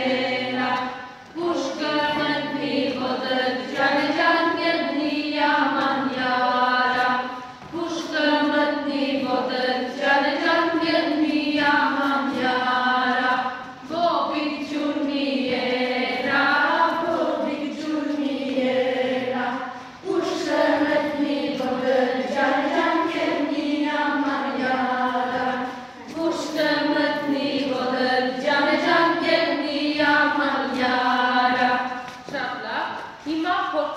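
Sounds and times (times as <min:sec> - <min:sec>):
children and women singing: 0:00.0 - 0:33.9.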